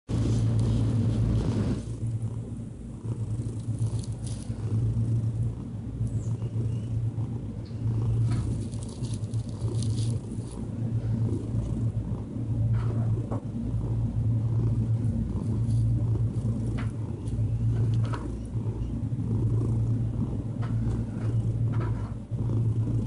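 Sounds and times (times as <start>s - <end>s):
cat purring: 0.1s - 23.0s.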